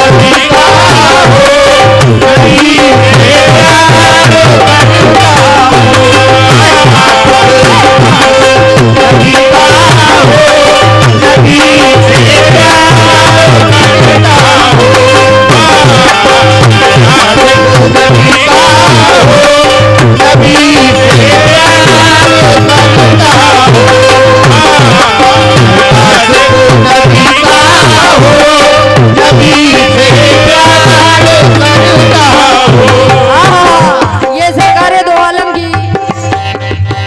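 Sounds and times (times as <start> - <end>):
harmonium notes: 0.0 - 37.0
tabla rhythm: 0.0 - 37.0.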